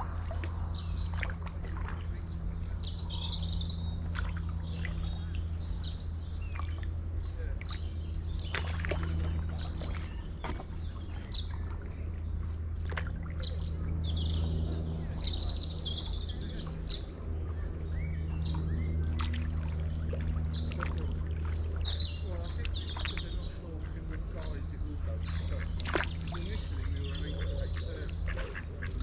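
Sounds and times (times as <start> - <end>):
songbirds singing: 0.0 - 29.0
steady low rumble: 0.0 - 29.0.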